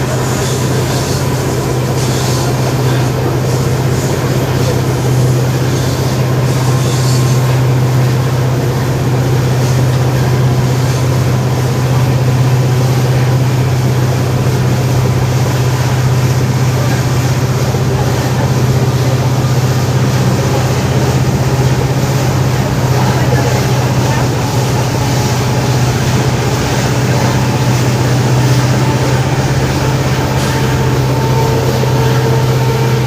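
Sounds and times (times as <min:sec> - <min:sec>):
diesel locomotive engine hum: 0:00.0 - 0:33.0
train running noise: 0:00.0 - 0:33.0.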